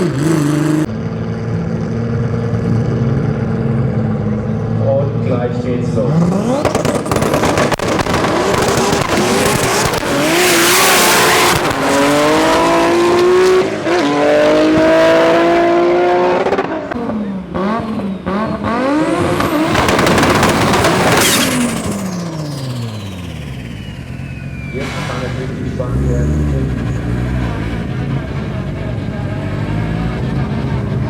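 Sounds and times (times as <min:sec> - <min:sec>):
race car engine accelerating: 0:00.0 - 0:31.0.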